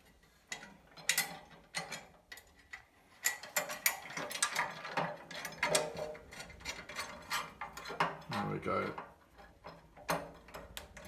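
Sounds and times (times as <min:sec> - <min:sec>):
metal hardware clicking and rattling: 0:00.1 - 0:11.0.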